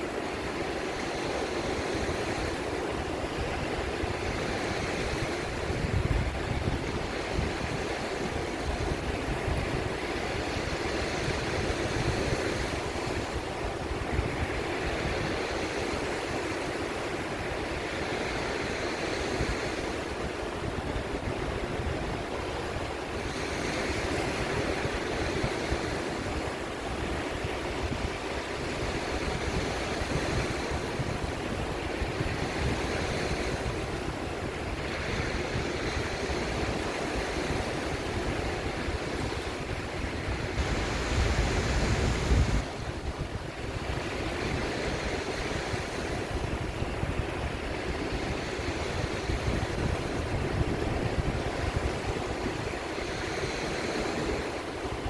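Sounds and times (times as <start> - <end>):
sea waves washing in: 0.0 - 55.0
wind: 0.0 - 55.0
wind rumble on microphone: 0.0 - 55.0.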